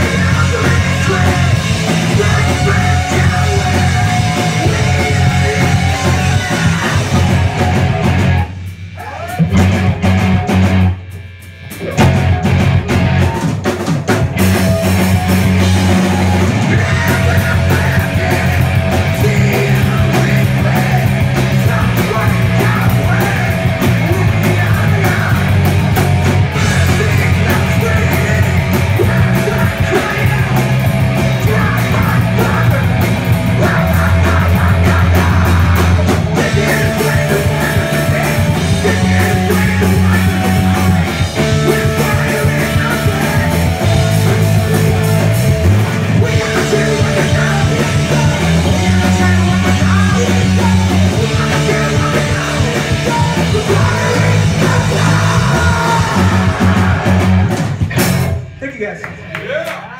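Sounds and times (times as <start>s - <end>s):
punk rock band playing live: 0.0s - 58.6s.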